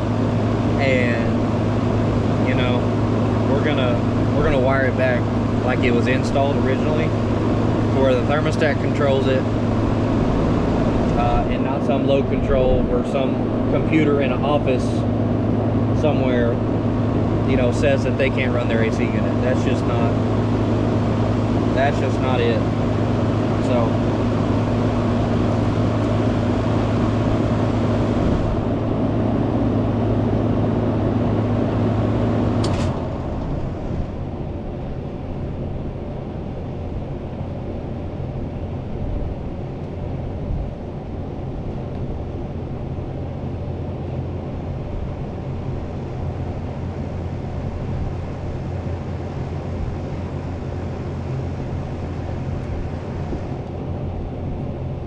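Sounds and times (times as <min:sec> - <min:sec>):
air conditioner compressor and fan: 0:00.0 - 0:55.0
quiet mechanical hum: 0:00.0 - 0:55.0.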